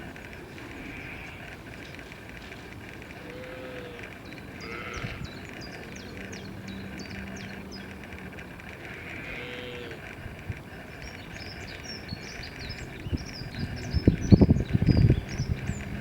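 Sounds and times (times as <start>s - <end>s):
drawn-out animal calls: 0.0s - 16.0s
outdoor background hum: 0.0s - 16.0s.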